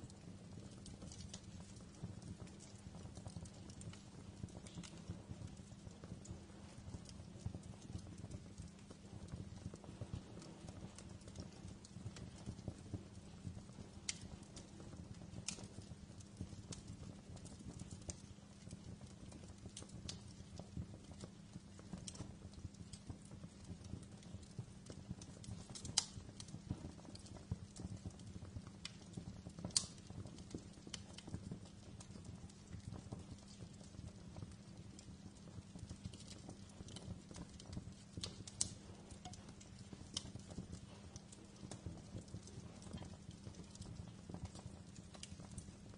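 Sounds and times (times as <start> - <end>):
low rumble of fire: 0.0 - 45.9
wood fire crackling: 0.0 - 45.9
sharp pops of fire: 0.1 - 45.9.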